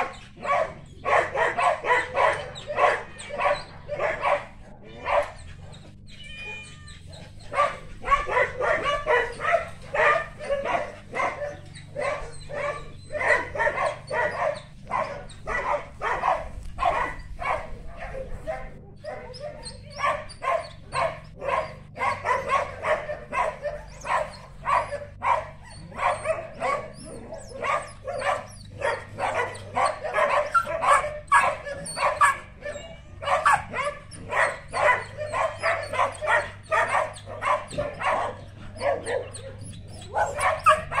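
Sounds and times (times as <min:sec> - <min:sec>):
dog barking: 0:00.0 - 0:41.0.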